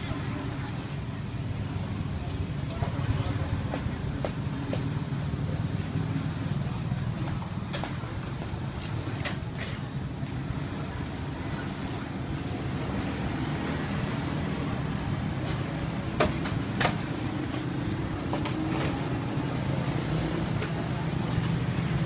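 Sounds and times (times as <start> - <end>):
traffic engine hum: 0.0 - 22.0.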